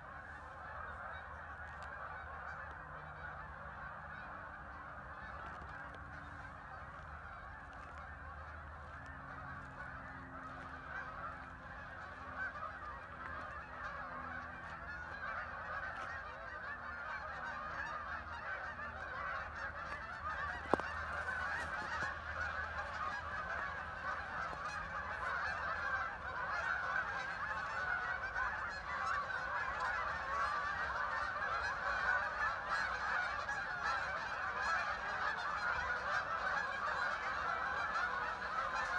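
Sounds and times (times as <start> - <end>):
flock of waterfowl calling: 0.0 - 38.9.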